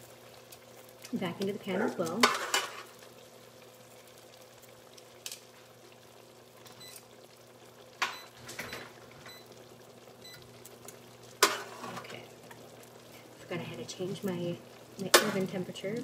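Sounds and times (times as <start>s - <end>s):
broth bubbling in a pan: 0.0s - 16.0s.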